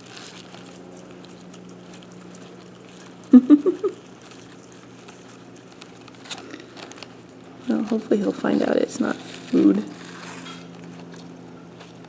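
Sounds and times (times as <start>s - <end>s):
low steady hum: 0.0s - 12.0s
skink scratching on egg crate: 0.0s - 12.0s.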